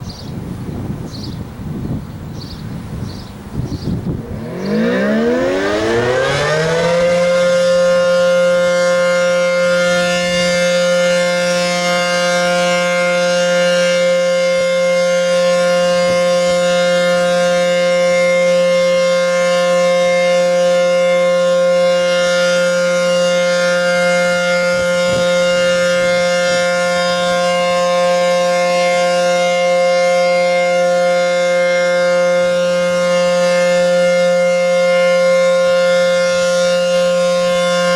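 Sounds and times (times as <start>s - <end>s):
outdoor warning siren steady tone: 3.7s - 37.9s.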